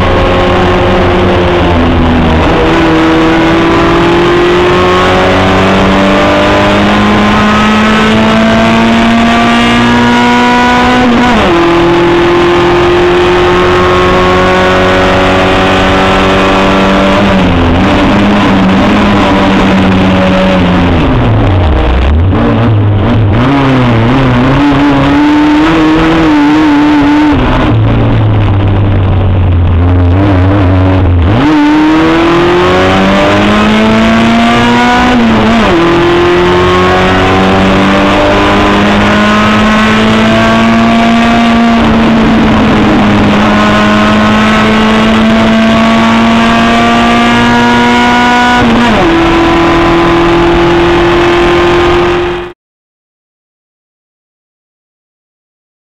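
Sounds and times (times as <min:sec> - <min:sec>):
race car engine accelerating: 0:00.0 - 0:52.6.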